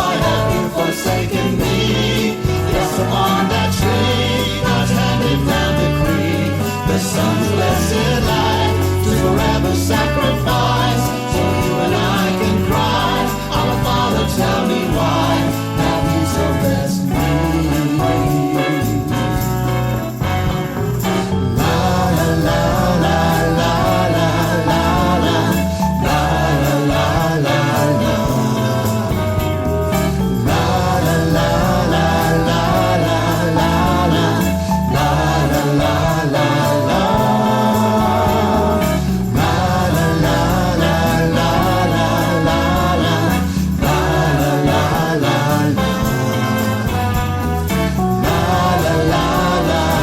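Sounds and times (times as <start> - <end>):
gospel song instrumental: 0.0 - 50.0.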